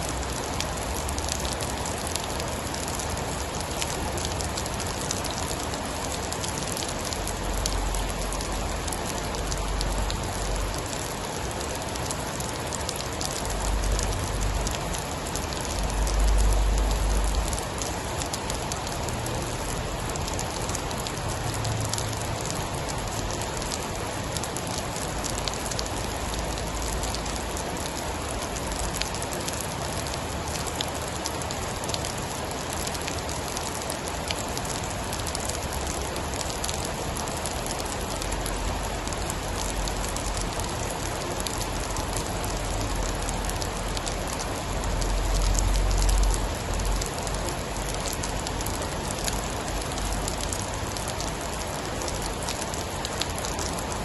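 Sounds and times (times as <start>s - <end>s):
heavy rain: 0.0s - 54.0s
sharp drips and crackles: 0.0s - 54.0s.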